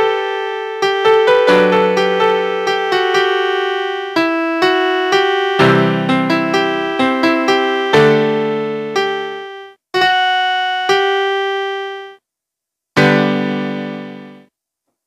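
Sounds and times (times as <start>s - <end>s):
electronic keyboard piano notes: 0.0s - 12.2s, 13.0s - 14.4s.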